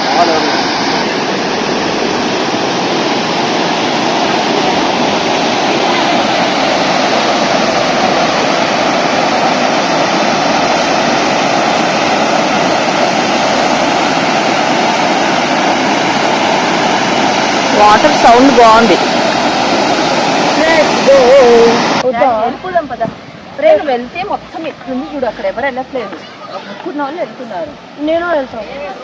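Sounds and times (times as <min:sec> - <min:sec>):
waterfall roar: 0:00.0 - 0:29.0.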